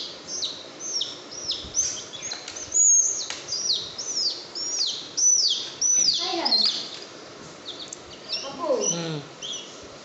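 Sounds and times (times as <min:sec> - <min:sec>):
baby chicks peeping: 0:00.0 - 0:09.8.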